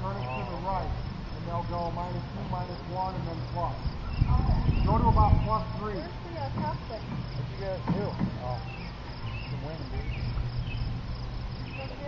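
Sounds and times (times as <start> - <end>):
crickets chirping: 0.0 - 12.0
faint voices: 0.0 - 12.0.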